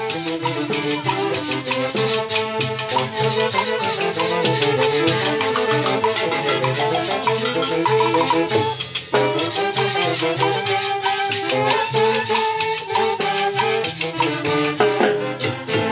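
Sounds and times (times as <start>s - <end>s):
metal guiro scraping: 0.0s - 15.9s
street band playing dance tune: 0.0s - 15.9s.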